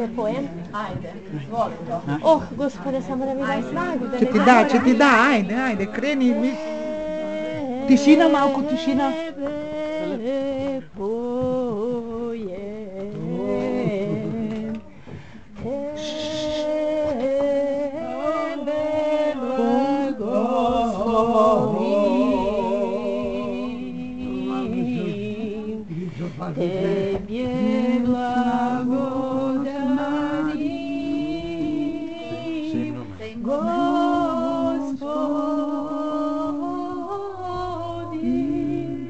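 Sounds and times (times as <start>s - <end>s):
solo singing of a hymn: 0.0s - 39.0s.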